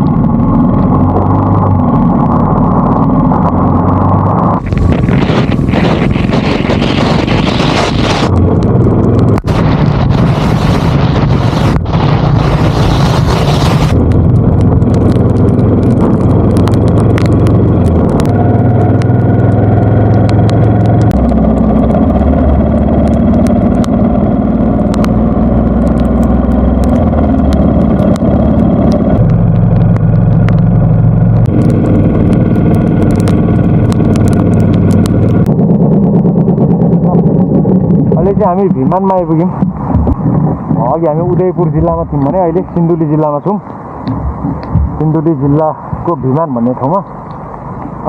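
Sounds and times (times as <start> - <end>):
motorcycle engine running: 0.0 - 43.1
wind noise on microphone: 0.0 - 48.0.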